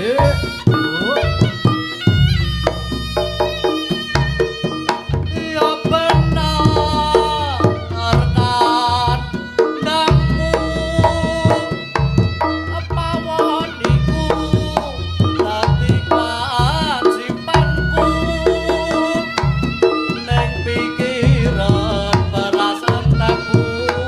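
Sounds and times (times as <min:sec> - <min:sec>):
hand drums beating: 0:00.0 - 0:24.0
reedy wind melody: 0:00.0 - 0:24.0
deep repeating bass: 0:00.2 - 0:09.5, 0:10.1 - 0:24.0.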